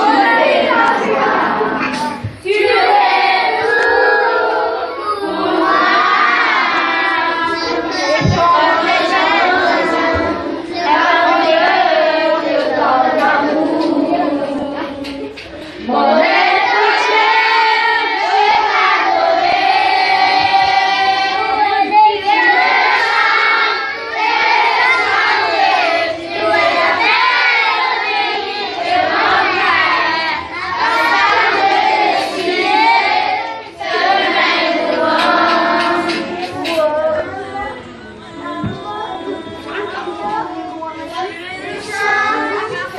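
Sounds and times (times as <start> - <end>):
children singing worship song: 0.0 - 42.9.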